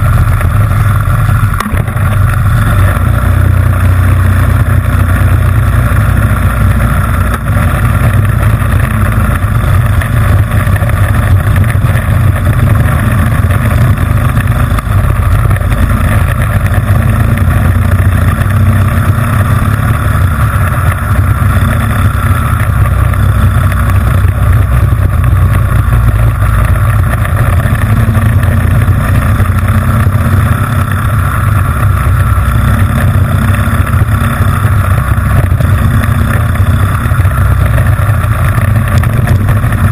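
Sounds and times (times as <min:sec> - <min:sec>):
small engine running at high revs: 0:00.0 - 0:39.9.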